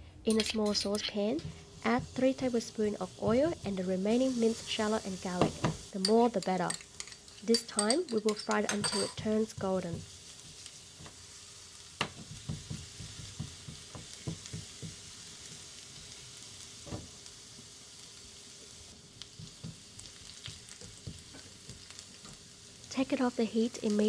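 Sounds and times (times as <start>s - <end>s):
shallot and garlic sizzling in oil: 0.3s - 24.0s.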